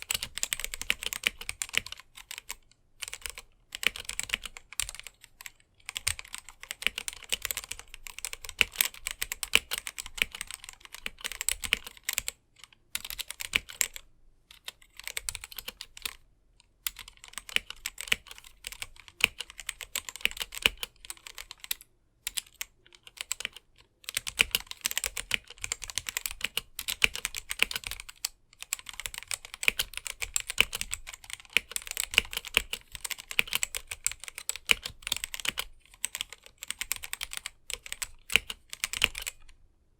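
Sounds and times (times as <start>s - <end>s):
mechanical keyboard typing: 0.0s - 16.2s, 16.8s - 39.6s.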